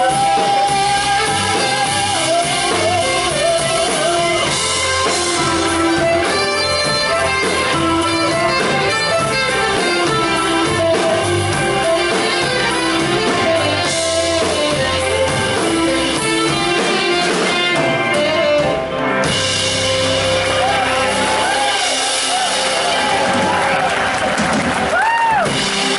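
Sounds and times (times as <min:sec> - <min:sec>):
drum kit: 0:00.0 - 0:25.9
electric guitar: 0:00.0 - 0:25.9
saxophone: 0:00.0 - 0:25.9.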